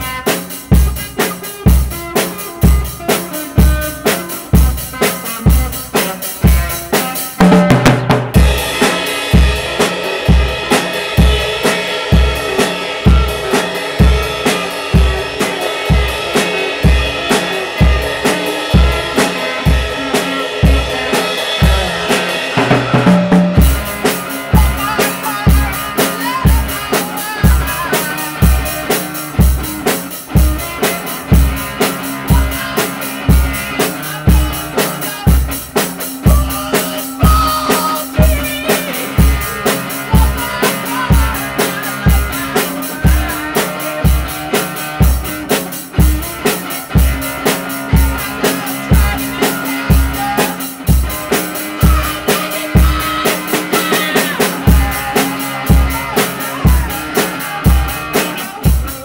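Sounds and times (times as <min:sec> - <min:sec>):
drum kit beat: 0:00.0 - 0:59.0
rock music: 0:00.0 - 0:59.0.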